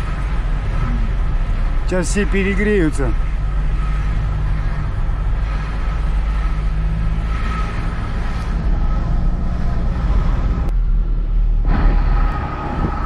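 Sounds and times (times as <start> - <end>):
car interior low rumble: 0.0 - 13.0.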